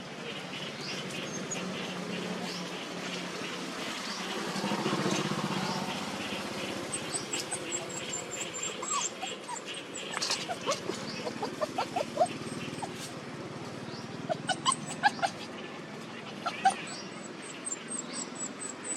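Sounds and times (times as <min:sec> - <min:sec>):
engine running: 0:00.0 - 0:17.5.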